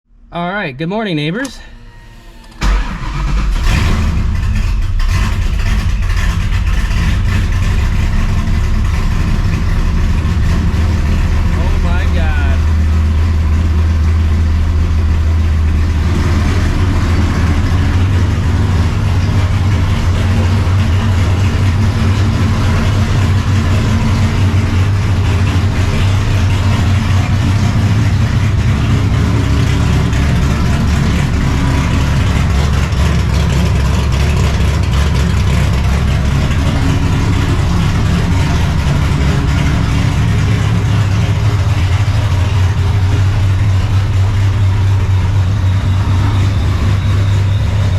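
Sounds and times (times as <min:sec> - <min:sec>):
car engine deep rumble: 0:00.1 - 0:47.9.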